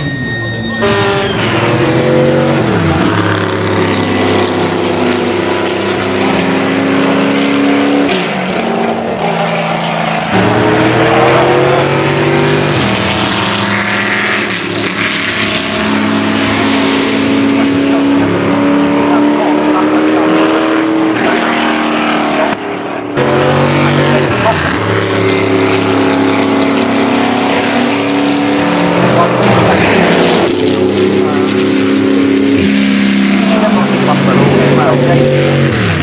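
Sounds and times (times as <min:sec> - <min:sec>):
racing car engines: 0:00.0 - 0:36.0.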